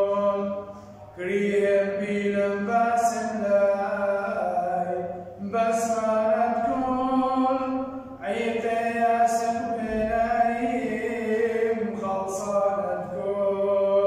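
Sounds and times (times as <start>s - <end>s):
man chanting a hymn: 0.0s - 14.0s.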